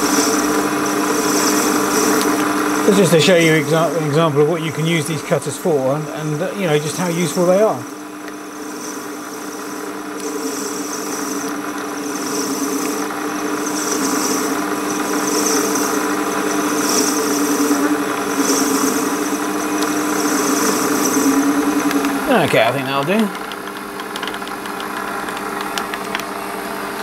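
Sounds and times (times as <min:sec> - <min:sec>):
metal cutting hiss: 0:00.0 - 0:23.3
lathe motor hum: 0:00.0 - 0:27.0.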